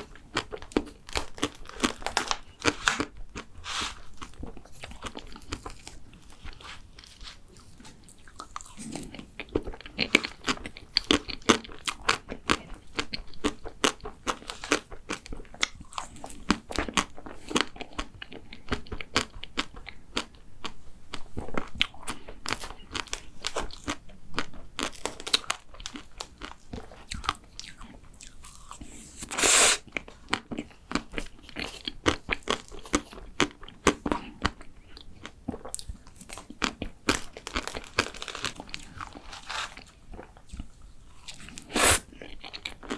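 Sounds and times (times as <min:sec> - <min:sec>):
chewing and crunching: 0:00.0 - 0:42.9.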